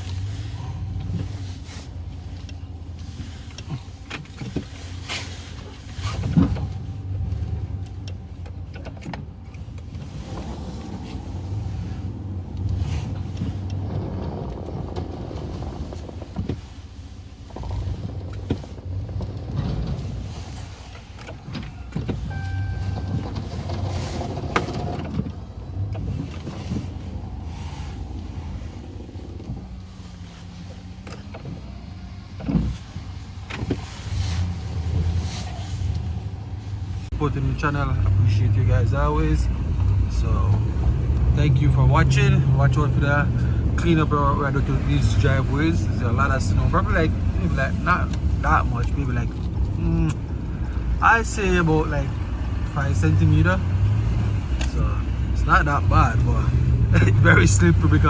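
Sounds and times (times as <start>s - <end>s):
pickup truck engine hum: 0.0s - 58.0s.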